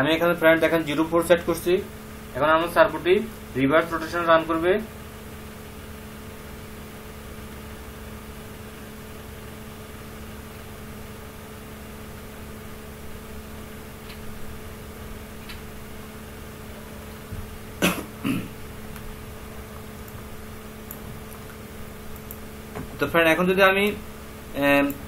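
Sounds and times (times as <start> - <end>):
electrical hum with two tones: 0.0 - 25.0.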